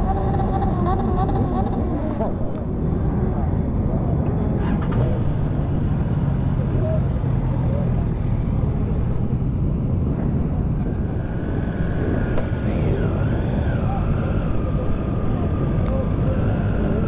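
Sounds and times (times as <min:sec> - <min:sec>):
motorcycle engines droning: 0:00.0 - 0:17.0
wind on microphone: 0:00.0 - 0:17.0.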